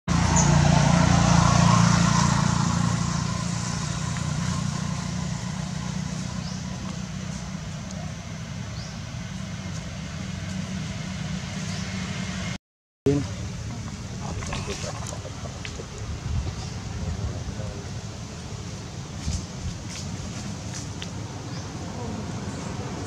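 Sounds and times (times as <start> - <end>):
vehicle engine humming: 0.1 - 23.0.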